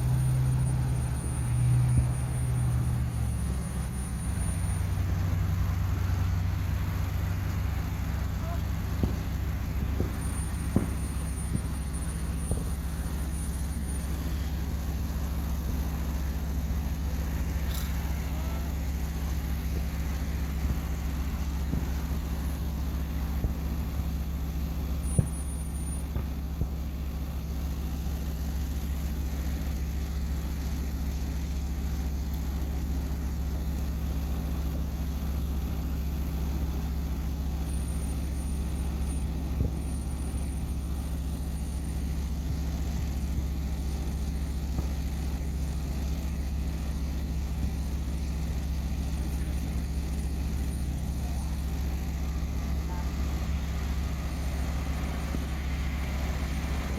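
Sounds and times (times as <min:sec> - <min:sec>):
vehicle engine idling: 0:00.0 - 0:56.9.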